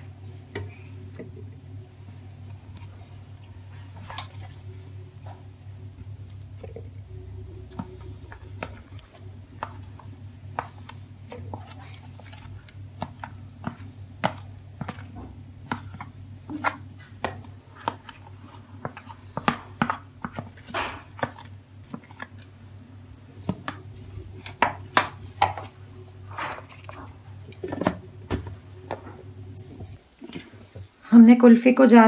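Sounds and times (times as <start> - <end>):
steady low hum: 0.0 - 32.0
scraping thick mixture: 2.4 - 30.9.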